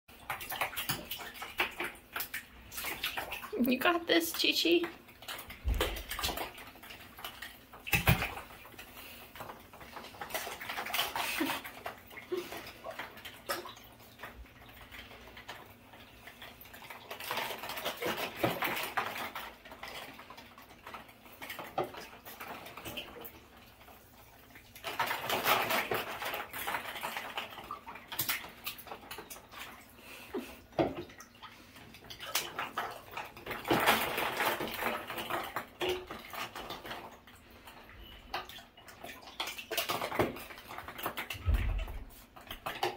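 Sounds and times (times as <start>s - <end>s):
water splashing in a bathtub: 0.1s - 42.9s.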